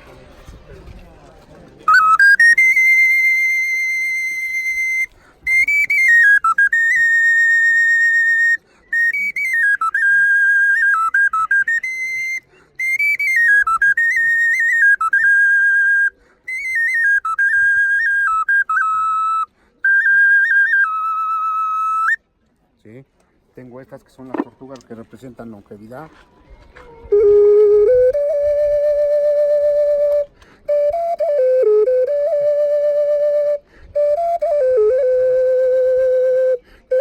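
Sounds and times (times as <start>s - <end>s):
high whistling wind instrument: 1.8s - 22.2s, 26.8s - 37.0s.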